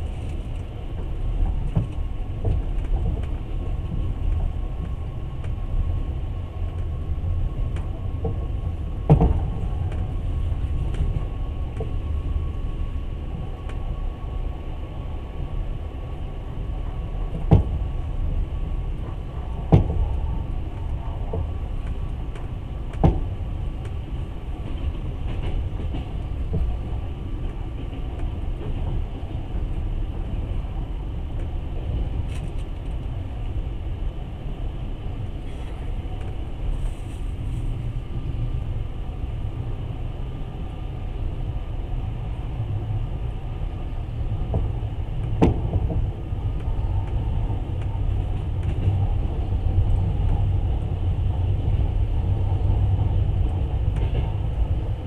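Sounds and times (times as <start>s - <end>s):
train carriage low rumble: 0.0s - 55.0s.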